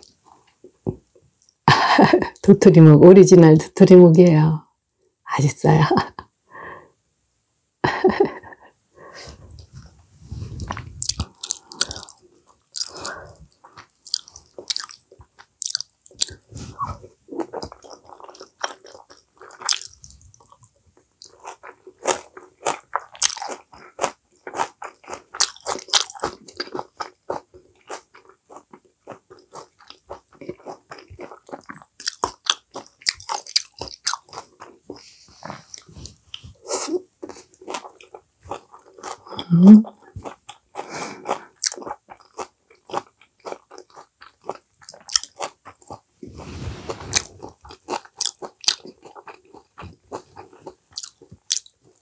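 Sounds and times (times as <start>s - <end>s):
person chewing crunchy food: 9.3s - 52.0s.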